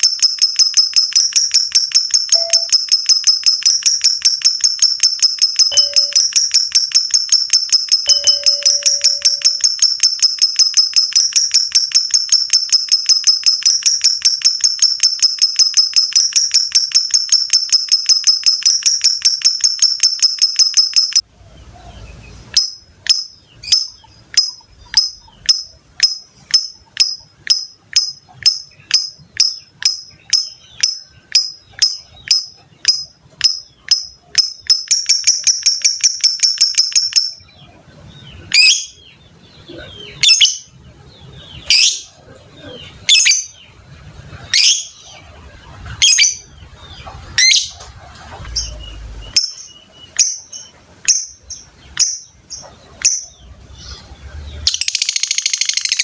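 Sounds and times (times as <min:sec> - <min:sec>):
lovebird chattering song: 0:00.0 - 0:56.0.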